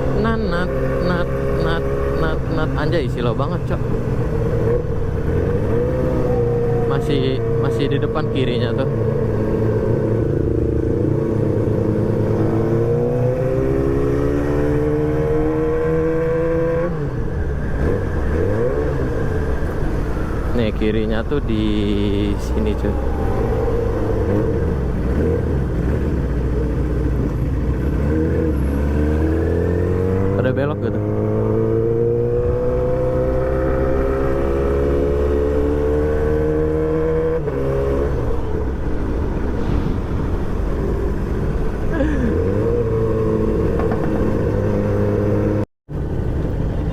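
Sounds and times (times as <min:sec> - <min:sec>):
motorcycle engine accelerating: 0:00.0 - 0:45.6.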